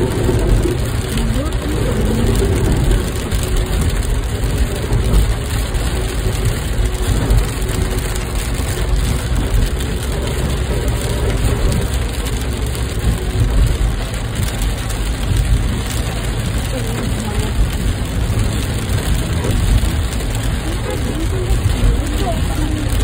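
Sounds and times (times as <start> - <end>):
car driving rumble: 0.0 - 23.0
heavy rain on car: 0.0 - 23.0.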